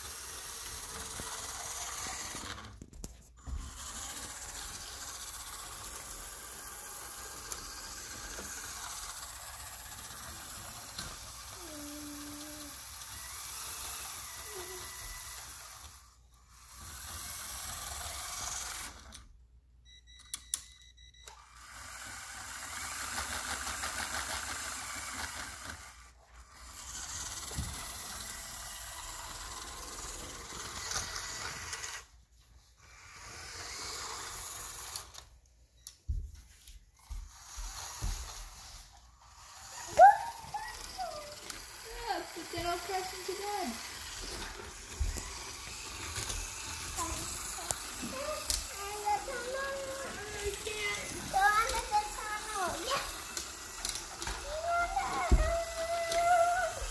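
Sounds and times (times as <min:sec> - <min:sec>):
electric motors whirring: 0:00.0 - 0:19.4, 0:21.2 - 0:56.9.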